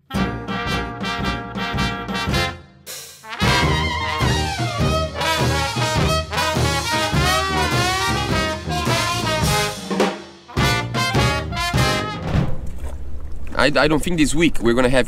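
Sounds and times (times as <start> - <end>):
upbeat swing brass music: 0.0 - 12.4.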